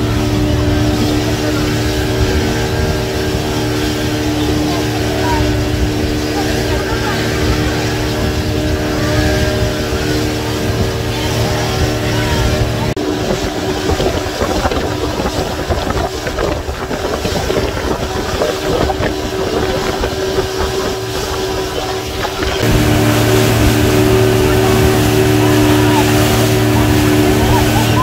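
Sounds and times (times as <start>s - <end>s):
motorboat engine drone: 0.0s - 28.0s
rushing wind: 0.0s - 28.0s
water splashing: 0.0s - 28.0s.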